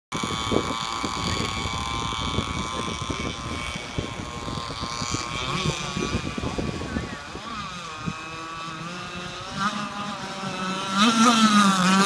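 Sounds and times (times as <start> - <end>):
model boat engine buzzing: 0.1 - 12.0
wind buffeting microphone: 0.1 - 12.0.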